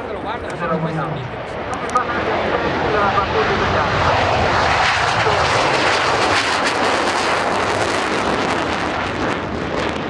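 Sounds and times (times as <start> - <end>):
fighter jet afterburner roar: 0.3 - 10.0.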